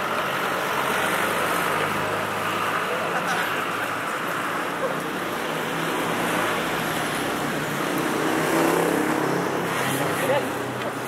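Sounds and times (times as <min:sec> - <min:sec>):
vehicle engines on busy street: 0:00.0 - 0:11.0.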